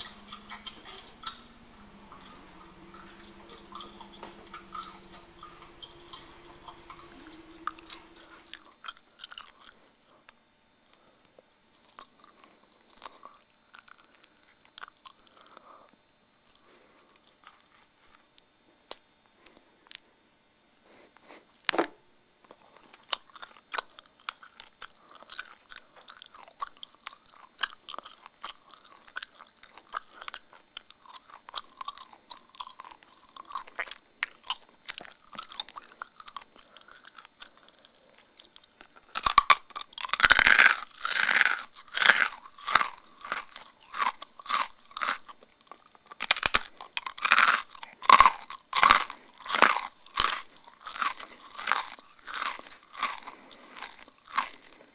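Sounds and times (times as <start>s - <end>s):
crunching of dry food: 0.0s - 10.2s, 11.7s - 20.1s, 22.4s - 54.9s.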